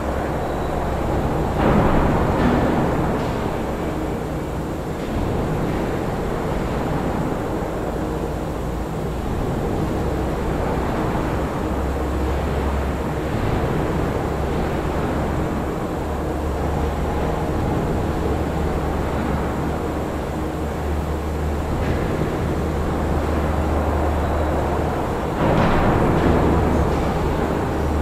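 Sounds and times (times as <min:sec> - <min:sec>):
low machinery rumble and hum: 0:00.0 - 0:28.0.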